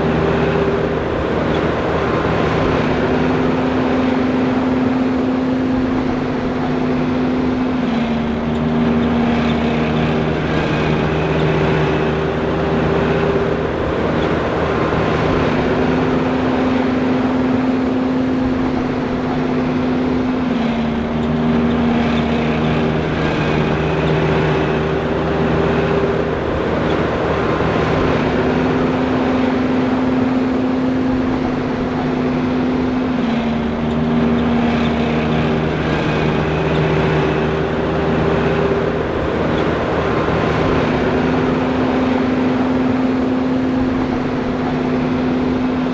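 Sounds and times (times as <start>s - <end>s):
forage harvester drone: 0.0s - 45.9s.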